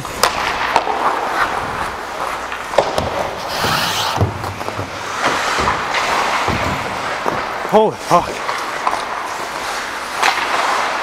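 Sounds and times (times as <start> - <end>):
skates scraping on ice: 0.0 - 11.0.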